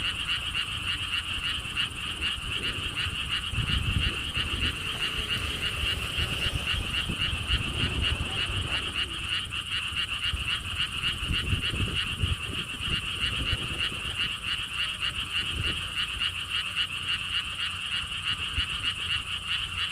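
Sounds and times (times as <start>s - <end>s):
frogs calling in pulses: 0.0s - 19.9s
wind rumbling on microphone: 0.0s - 19.9s.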